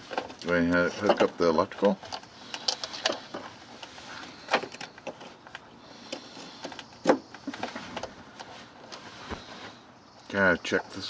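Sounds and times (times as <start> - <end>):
quiet rustling: 0.0 - 11.0.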